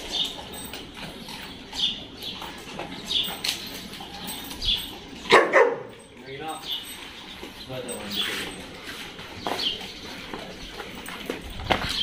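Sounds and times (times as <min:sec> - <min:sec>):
dogs milling about: 0:00.0 - 0:12.0.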